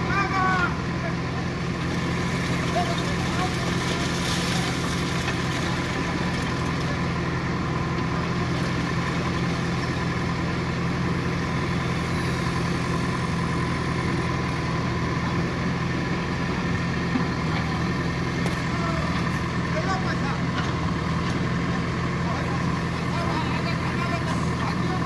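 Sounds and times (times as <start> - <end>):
diesel engine running steadily: 0.0 - 25.0.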